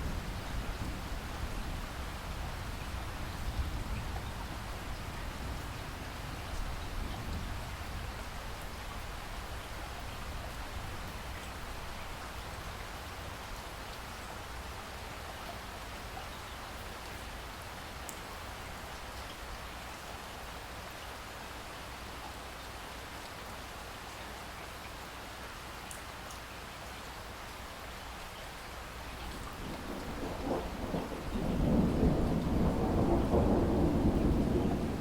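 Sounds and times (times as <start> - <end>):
rain hiss: 0.0 - 35.0.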